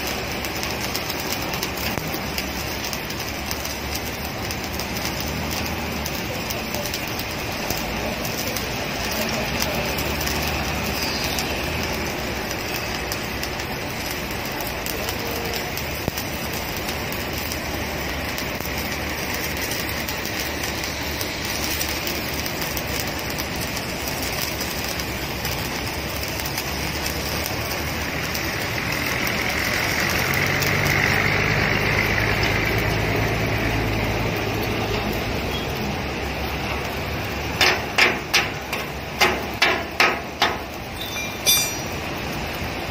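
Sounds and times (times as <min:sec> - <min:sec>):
welding arc crackling: 0:00.0 - 0:42.9.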